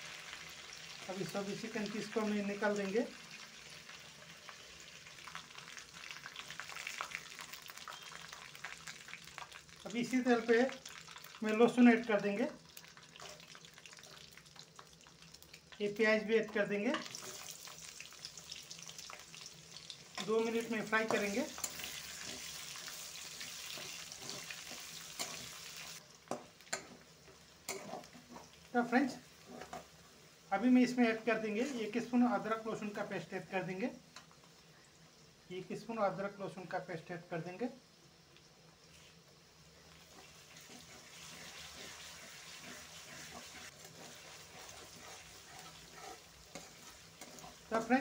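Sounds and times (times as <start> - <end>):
garlic and onion sizzling in oil: 0.0 - 48.0.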